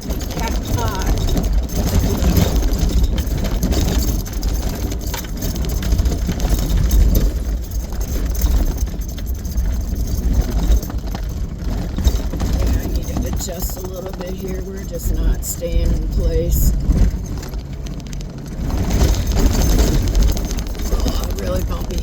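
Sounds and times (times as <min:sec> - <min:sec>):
engine and tyres rumbling: 0:00.0 - 0:22.0
loose items rattling: 0:00.0 - 0:22.0.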